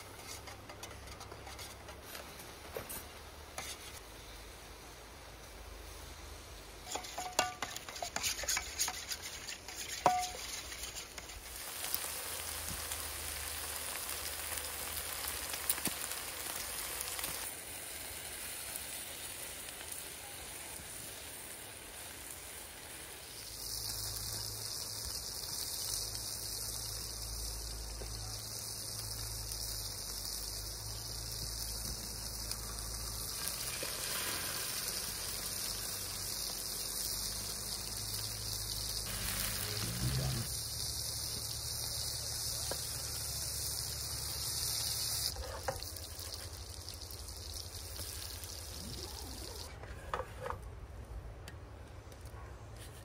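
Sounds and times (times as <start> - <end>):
food sizzling in a frying pan: 3.0 - 49.7.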